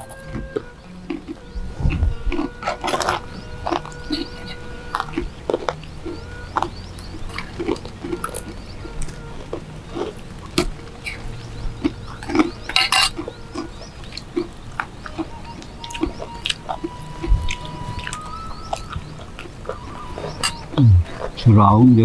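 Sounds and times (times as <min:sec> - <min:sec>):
people chewing: 0:00.0 - 0:21.5.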